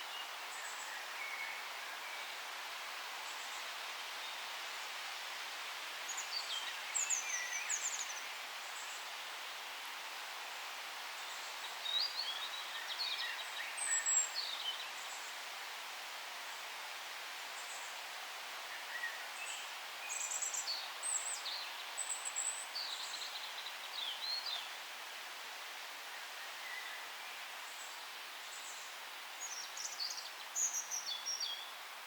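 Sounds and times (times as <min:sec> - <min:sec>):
forest background hiss: 0:00.0 - 0:32.0.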